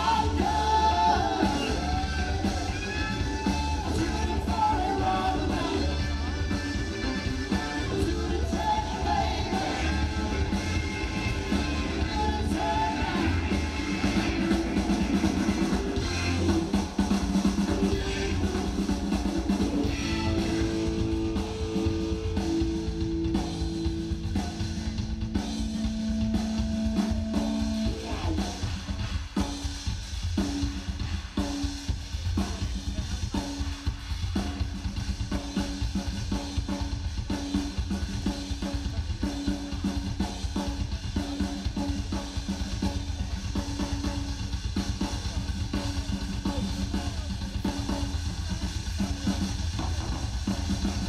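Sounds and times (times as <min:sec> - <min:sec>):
rock drum solo: 0:00.0 - 0:51.0.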